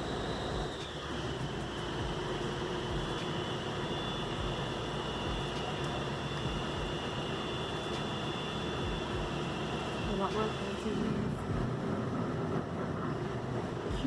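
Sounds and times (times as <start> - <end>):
faint high whine: 0.0 - 14.0
ship machinery drone: 0.0 - 14.0.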